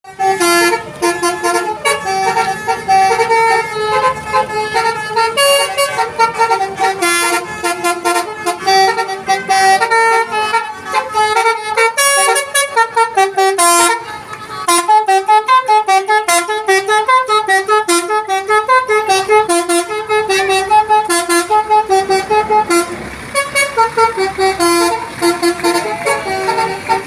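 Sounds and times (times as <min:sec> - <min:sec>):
multi-tone bus horn playing a tune: 0:00.0 - 0:27.0.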